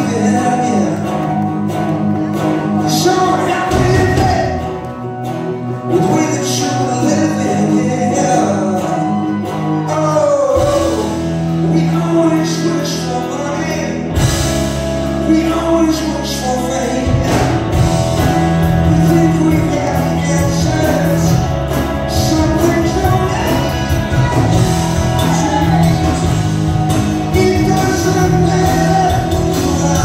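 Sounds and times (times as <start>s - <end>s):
man singing: 0.0s - 1.5s, 2.2s - 5.0s, 5.7s - 30.0s
live rock band: 0.0s - 30.0s.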